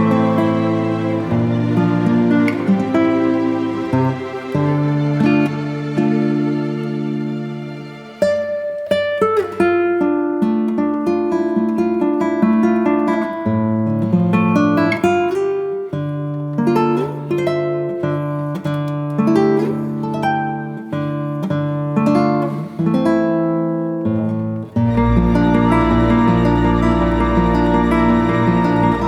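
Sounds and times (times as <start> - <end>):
acoustic guitar chords: 0.0 - 29.0.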